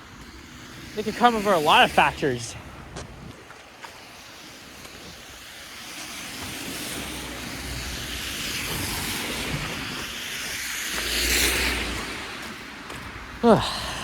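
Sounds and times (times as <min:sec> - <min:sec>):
tyres hissing on road: 0:00.0 - 0:14.0.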